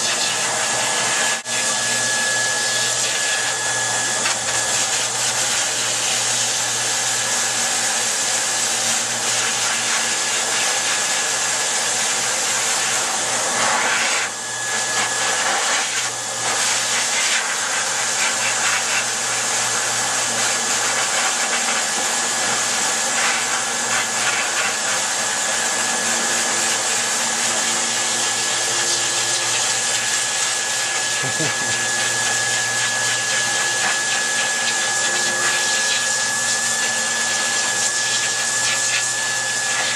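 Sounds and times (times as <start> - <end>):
dryer blowing air with whine: 0.0 - 39.9.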